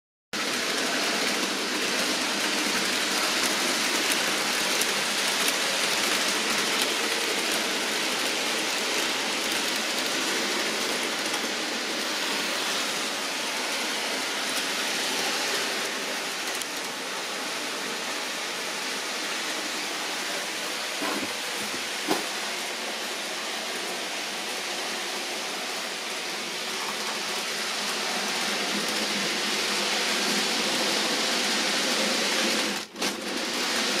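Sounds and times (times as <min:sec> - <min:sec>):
model train rumbling on track: 0:00.4 - 0:34.0.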